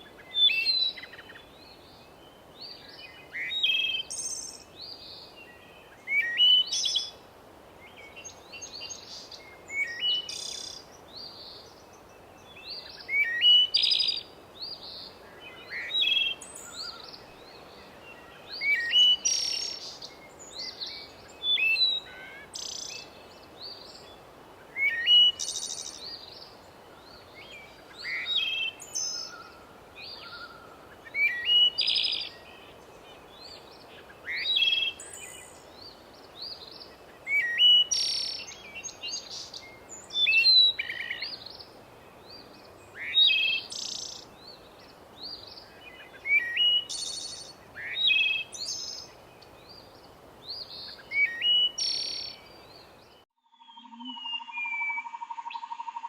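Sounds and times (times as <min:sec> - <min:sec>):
faint background hiss: 0:00.0 - 0:56.0
birds singing: 0:07.9 - 0:56.0.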